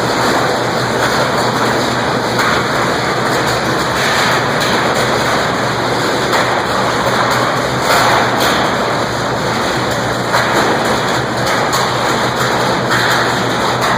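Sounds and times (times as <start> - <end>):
electric arc furnace arcing: 0.0 - 13.9.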